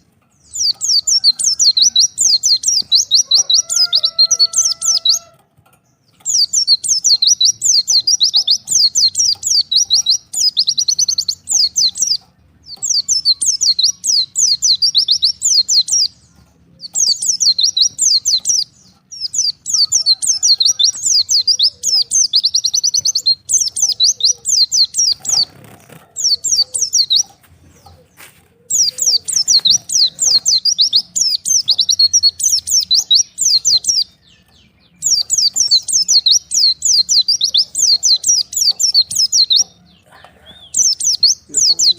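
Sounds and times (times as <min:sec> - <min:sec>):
bird high-pitched chirping: 0:00.0 - 0:41.9.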